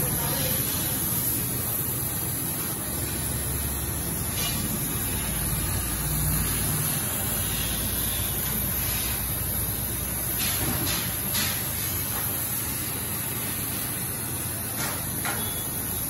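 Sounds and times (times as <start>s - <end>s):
laser cutter hissing: 0.0s - 16.0s.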